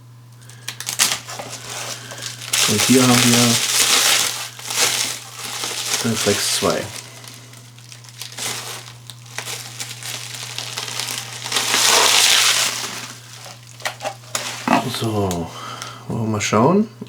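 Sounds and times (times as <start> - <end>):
packaging crinkling and rustling: 0.3 - 16.0.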